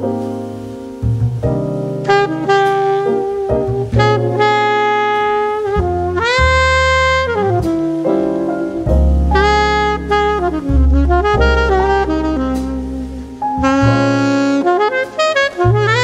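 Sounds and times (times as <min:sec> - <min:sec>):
sliding lead melody: 0:00.0 - 0:16.0
steady bass line: 0:00.0 - 0:16.0.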